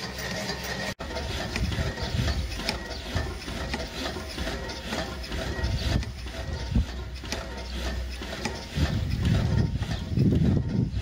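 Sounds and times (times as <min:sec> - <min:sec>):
rhythmic mechanical clatter: 0:00.0 - 0:11.0.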